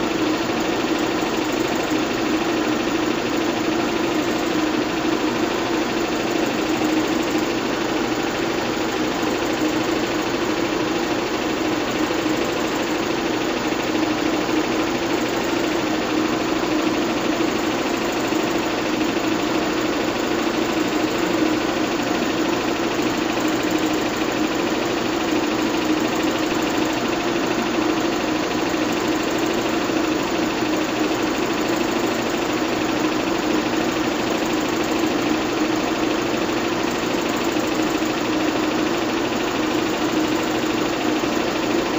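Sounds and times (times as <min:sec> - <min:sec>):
film projector whirring and rattling: 0:00.0 - 0:41.9.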